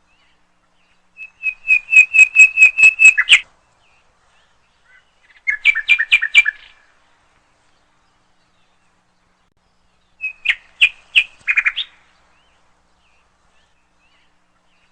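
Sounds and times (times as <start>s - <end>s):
bird chirping sharp calls: 0.1s - 6.9s, 8.2s - 14.9s.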